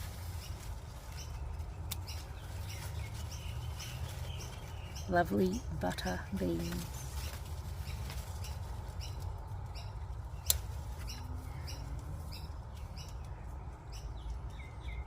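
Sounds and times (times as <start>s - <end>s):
steady low rumble: 0.0s - 15.0s
bird chirping: 0.2s - 15.0s.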